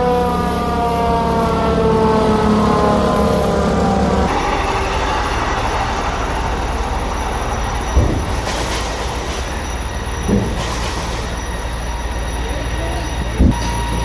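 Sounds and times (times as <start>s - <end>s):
heavy engine running: 0.0s - 14.0s.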